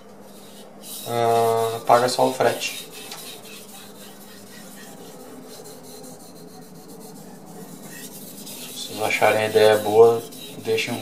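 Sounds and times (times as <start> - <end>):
knife scraping on a whetstone: 0.3 - 11.0.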